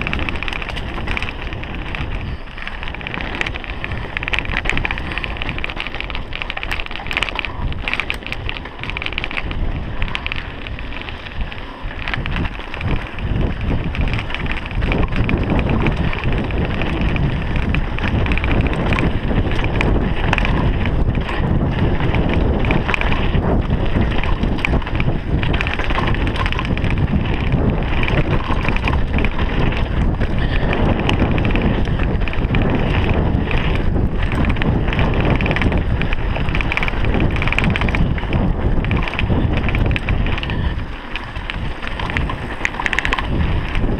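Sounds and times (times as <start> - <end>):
mountain bike rattling on trail: 0.0 - 43.9
wind buffeting microphone: 0.0 - 43.9.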